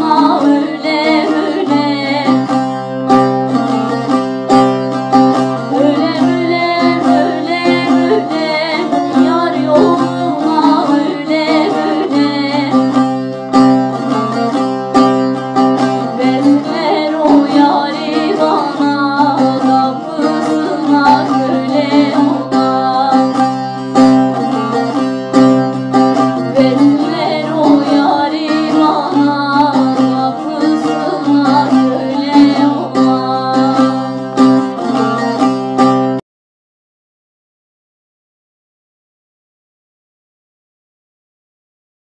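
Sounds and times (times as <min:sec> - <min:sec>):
plucked string instrument music: 0:00.0 - 0:36.2.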